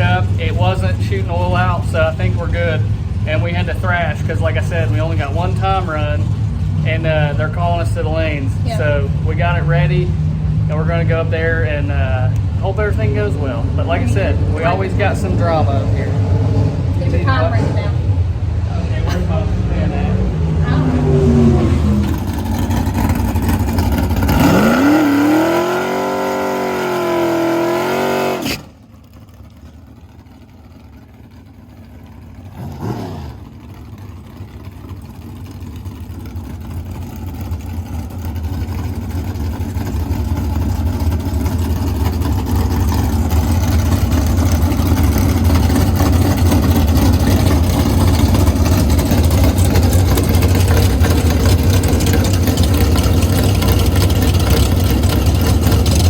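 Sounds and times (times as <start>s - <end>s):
race car engine revving: 0.0s - 29.4s, 32.3s - 56.0s
engine rumble: 0.0s - 56.0s.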